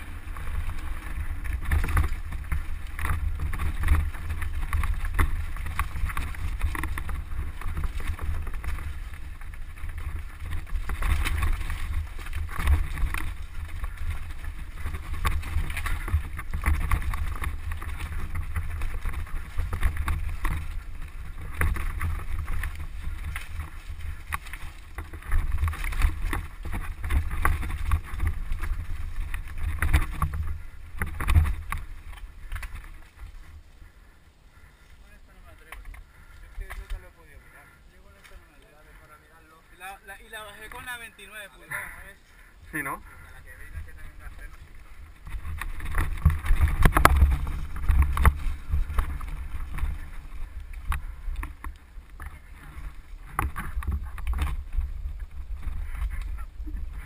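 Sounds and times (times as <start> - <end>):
wind on microphone: 0.0 - 34.8, 42.4 - 57.0
bike rattling over rocks: 0.0 - 57.0.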